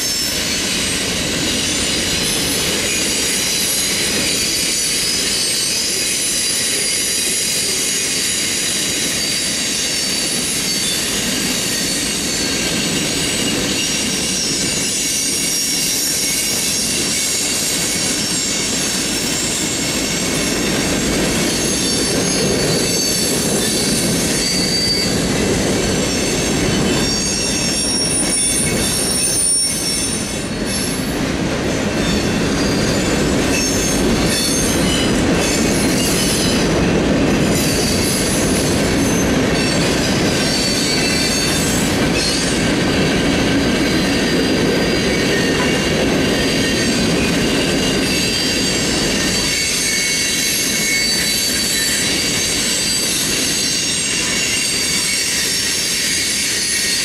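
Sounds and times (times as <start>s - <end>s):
high-pitched wheel squeal: 0.0s - 19.9s, 21.5s - 25.3s, 26.0s - 31.1s, 37.5s - 42.7s, 43.9s - 57.0s
train wheels rumbling on rail: 0.0s - 57.0s.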